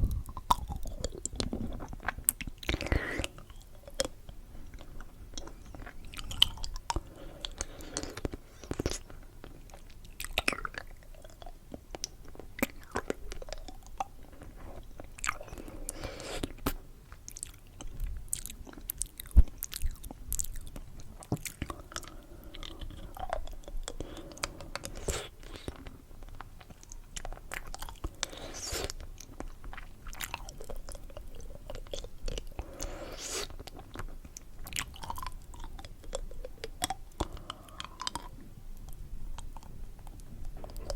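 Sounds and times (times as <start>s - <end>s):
chewing and crunching candy: 0.0s - 40.9s
soft mouth sounds: 0.0s - 40.9s.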